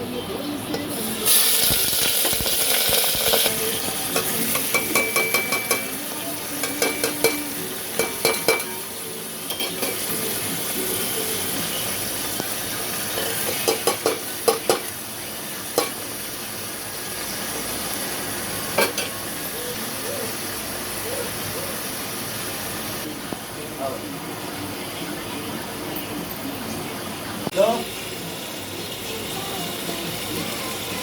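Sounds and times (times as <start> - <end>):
beef sizzling in hot oil: 0.7 - 25.7, 27.4 - 31.0.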